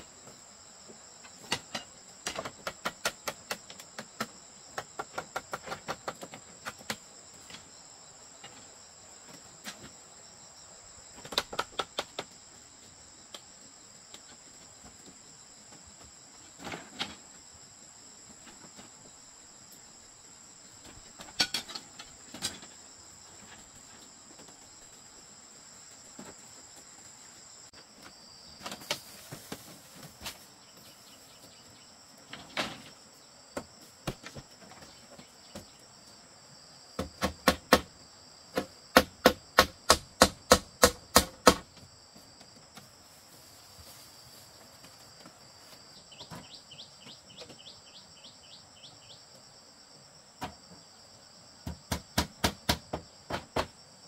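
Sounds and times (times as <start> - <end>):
crickets shrilling: 0.0 - 54.0.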